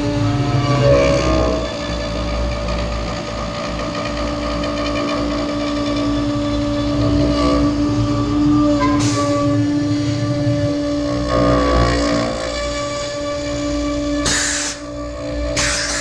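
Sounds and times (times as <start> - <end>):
router spindle whine: 0.0 - 16.0.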